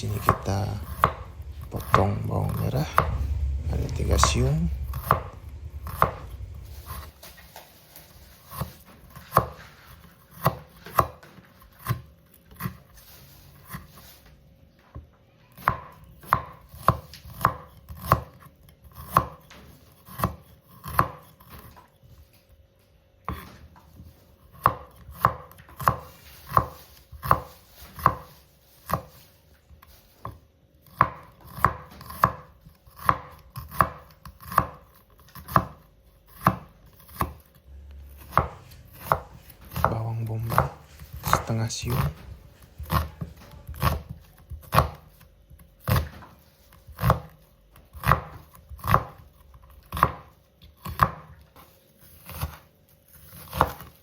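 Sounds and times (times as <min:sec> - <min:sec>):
knife chopping on cutting board: 0:00.0 - 0:03.2, 0:04.9 - 0:06.3, 0:08.3 - 0:13.0, 0:15.6 - 0:21.8, 0:23.2 - 0:29.4, 0:30.1 - 0:54.0.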